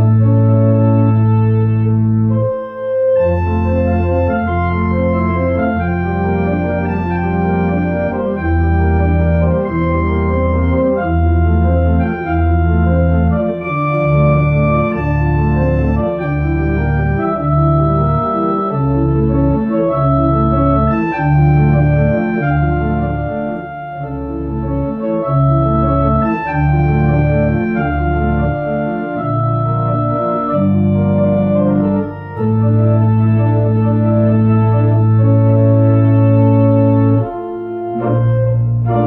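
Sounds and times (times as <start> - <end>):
electronic organ playing: 0.0 - 39.0.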